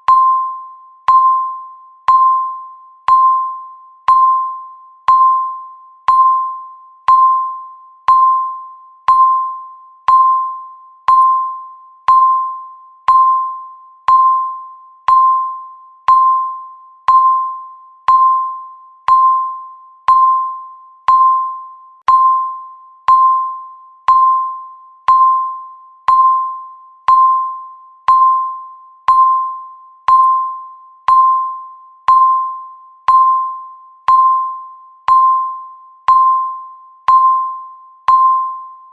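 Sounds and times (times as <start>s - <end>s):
countdown timer beeping: 0.0s - 38.9s.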